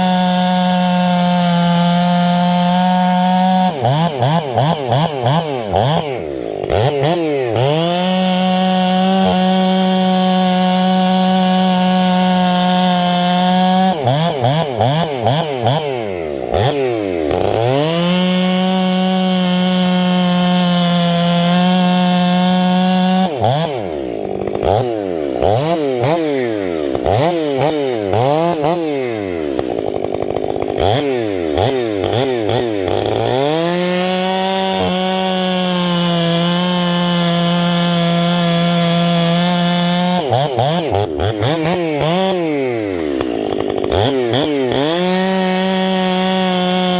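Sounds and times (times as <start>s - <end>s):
chainsaw revving: 0.0s - 46.9s.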